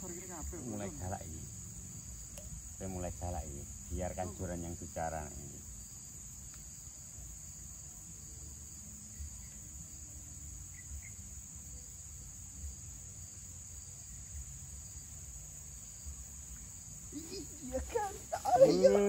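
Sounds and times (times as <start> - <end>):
high-pitched insect drone: 0.0 - 19.0
pulsing insect chirp: 0.0 - 19.0.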